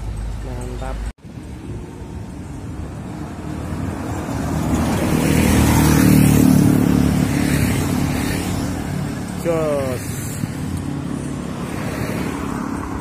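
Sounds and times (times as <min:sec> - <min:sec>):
bus driving past: 0:01.3 - 0:13.0.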